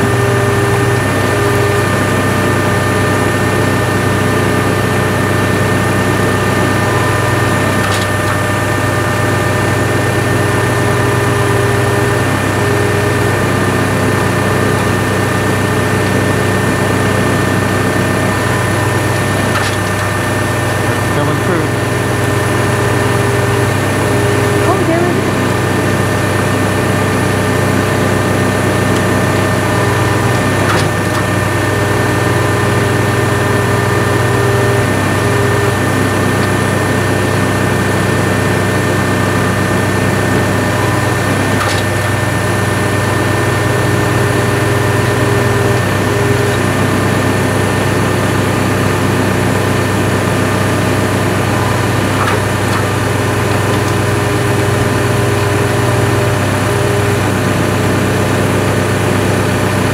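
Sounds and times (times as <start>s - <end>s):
hydraulic power unit running: 0.0s - 59.9s.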